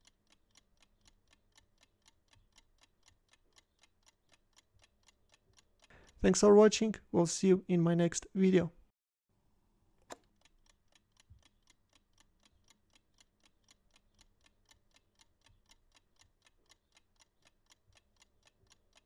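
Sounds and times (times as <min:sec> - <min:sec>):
faint rapid ticking: 0:00.0 - 0:07.2, 0:10.3 - 0:19.0.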